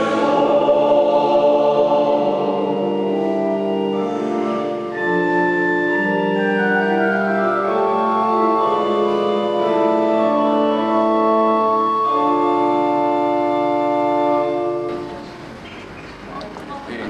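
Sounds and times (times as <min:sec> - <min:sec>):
organ playing slow chords: 0:00.0 - 0:15.6.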